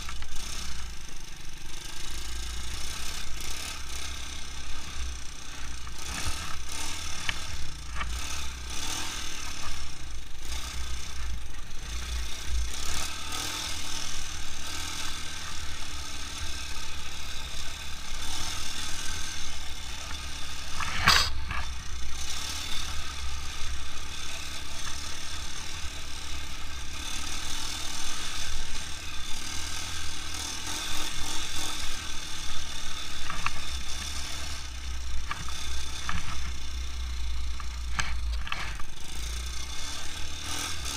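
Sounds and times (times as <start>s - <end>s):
quad bike engine running: 0.0s - 40.9s
machine rattling: 2.7s - 40.9s.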